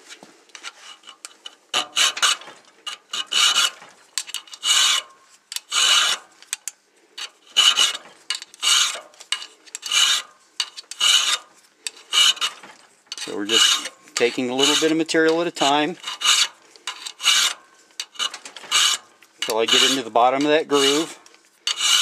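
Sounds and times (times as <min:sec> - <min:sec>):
file rasping on metal: 0:00.6 - 0:06.3, 0:07.2 - 0:22.0.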